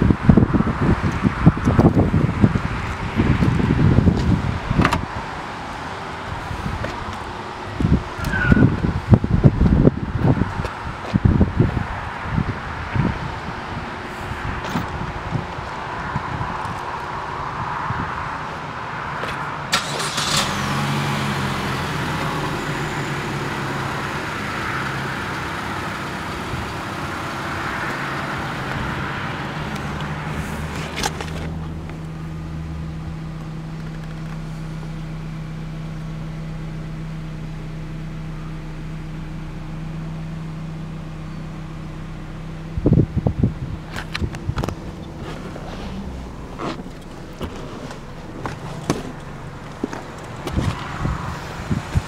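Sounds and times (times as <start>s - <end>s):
car engine idling: 0.0s - 52.0s
outdoor background noise: 0.0s - 52.0s.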